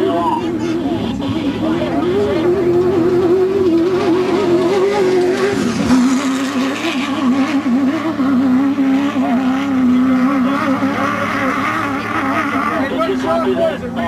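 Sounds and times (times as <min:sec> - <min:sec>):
race buggy engine running: 0:00.0 - 0:14.0.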